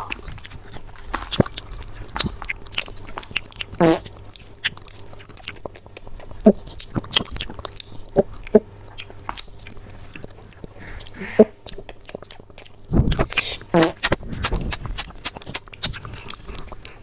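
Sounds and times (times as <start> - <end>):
crunchy chewing: 0.0 - 17.0
wet mouth sounds: 0.0 - 17.0.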